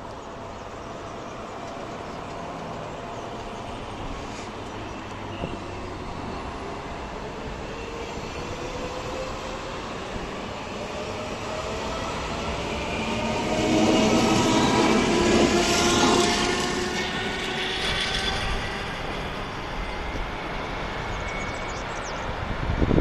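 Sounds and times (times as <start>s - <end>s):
electric train traction whine: 0.3s - 23.0s.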